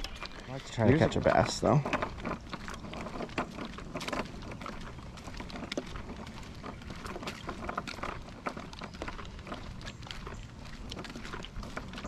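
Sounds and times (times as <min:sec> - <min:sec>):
small clicks and rattles: 0:00.0 - 0:12.0
tyre noise on asphalt: 0:00.0 - 0:12.0.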